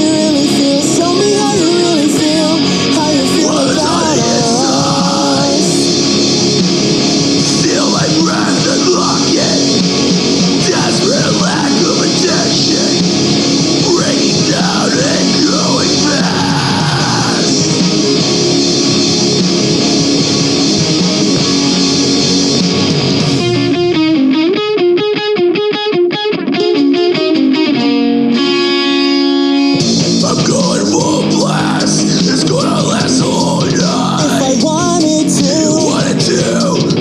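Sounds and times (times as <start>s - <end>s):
clean electric guitar: 0.0s - 37.0s
heavy rock music: 0.0s - 37.0s.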